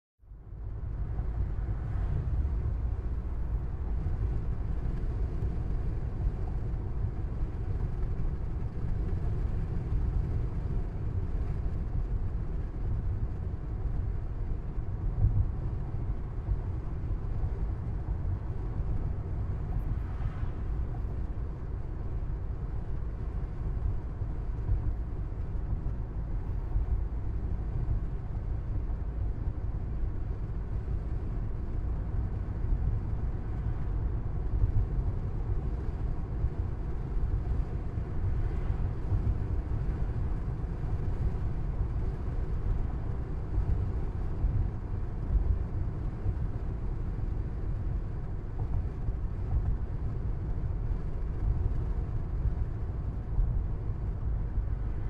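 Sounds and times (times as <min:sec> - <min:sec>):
car road and engine rumble: 0:00.2 - 0:55.0.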